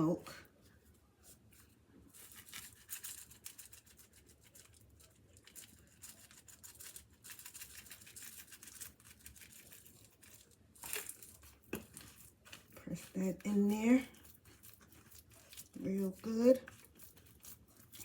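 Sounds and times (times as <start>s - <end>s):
scratchy rustling of seasoning: 0.1s - 18.0s.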